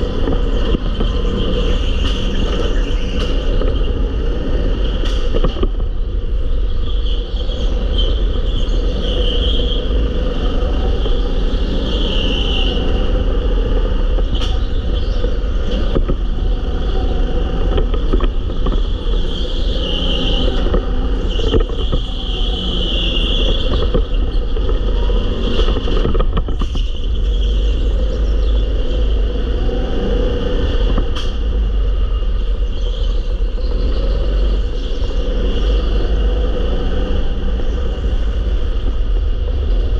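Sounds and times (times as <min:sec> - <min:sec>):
go-kart engine rumble: 0:00.0 - 0:39.9.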